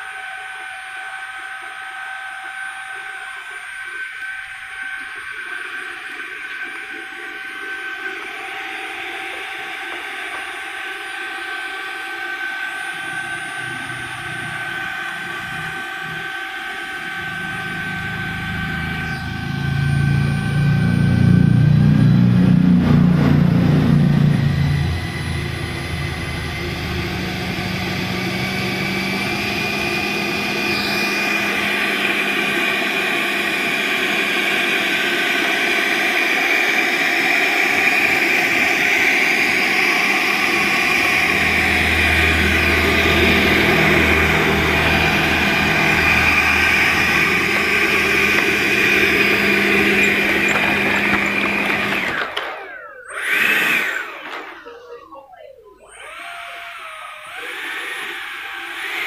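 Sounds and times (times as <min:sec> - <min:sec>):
electric ducted fan whining: 0:00.0 - 0:59.0.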